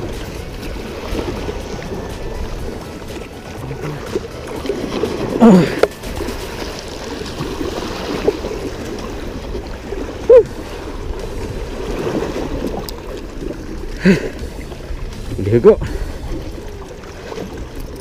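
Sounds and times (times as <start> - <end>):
flowing water: 0.0 - 18.0.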